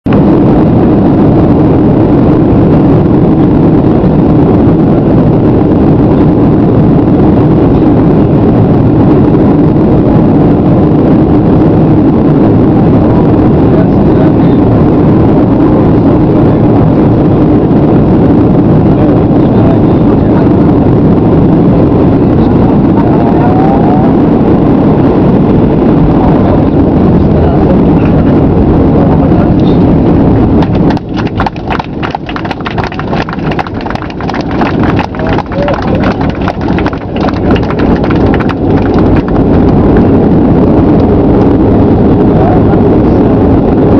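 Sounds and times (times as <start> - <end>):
airplane cabin noise: 0.0 - 43.9.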